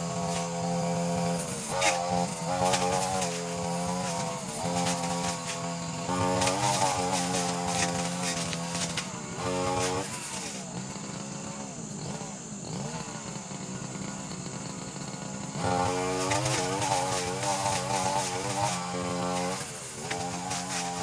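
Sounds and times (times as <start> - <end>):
brushcutter engine revving: 0.0 - 21.0.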